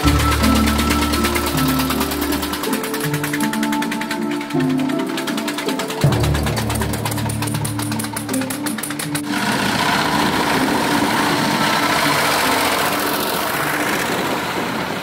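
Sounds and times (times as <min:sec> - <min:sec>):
old tractor engines running: 0:00.0 - 0:15.0.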